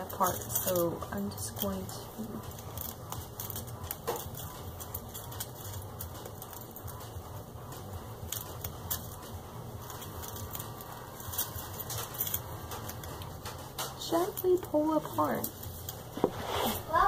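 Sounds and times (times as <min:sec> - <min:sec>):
owl pellet crackling: 0:00.0 - 0:17.0.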